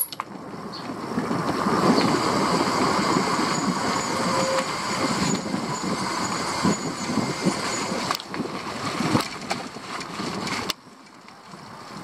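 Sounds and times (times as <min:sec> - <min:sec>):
low rumble of rolling vehicle: 0:00.0 - 0:12.0
wind buffeting: 0:00.3 - 0:12.0.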